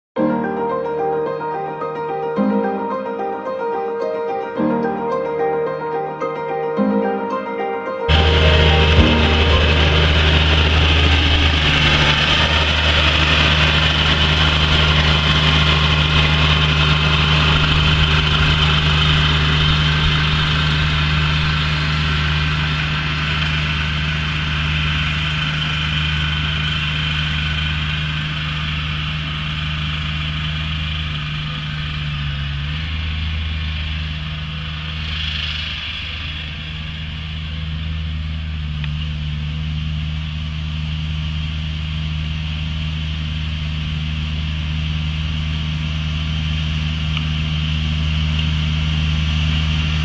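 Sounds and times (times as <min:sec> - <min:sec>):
ride-on mower engine running: 0:08.1 - 0:50.0.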